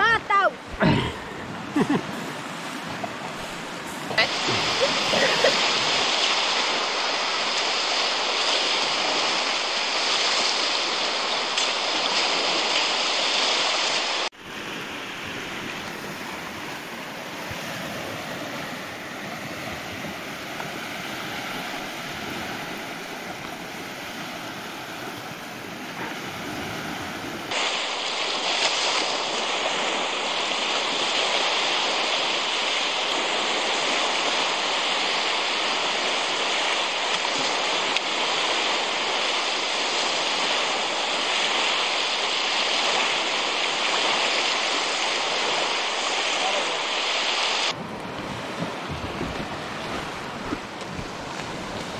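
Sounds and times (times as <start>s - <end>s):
sea waves breaking on beach: 0.0s - 51.9s.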